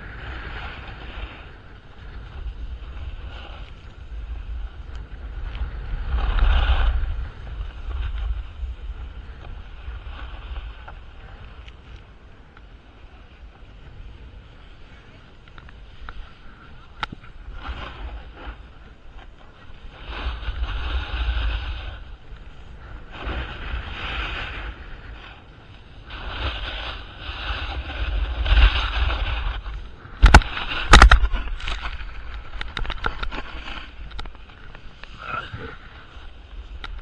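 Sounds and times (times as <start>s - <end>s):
ski edges scraping snow: 0.0s - 12.1s, 12.8s - 37.0s
wind rumble on microphone: 0.0s - 37.0s.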